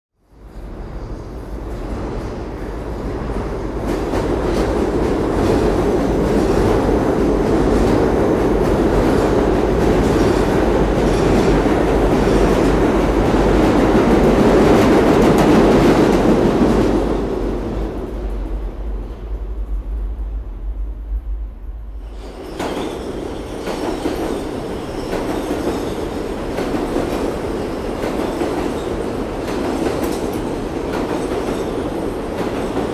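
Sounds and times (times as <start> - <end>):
subway train wheels clattering: 0.2 - 32.9.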